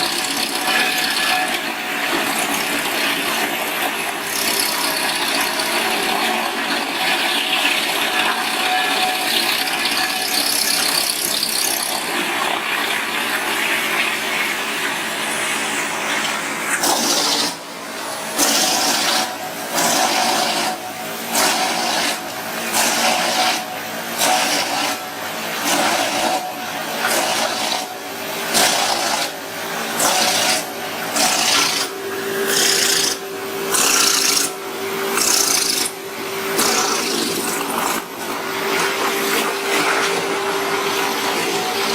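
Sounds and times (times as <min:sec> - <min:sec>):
machine grinding through timber: 0:00.0 - 0:41.9.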